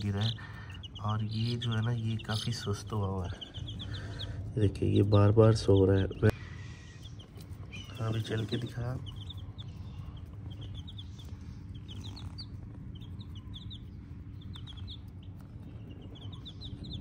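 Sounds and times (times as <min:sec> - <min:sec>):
chicks peeping: 0:00.0 - 0:17.0
low steady rumble: 0:00.0 - 0:17.0.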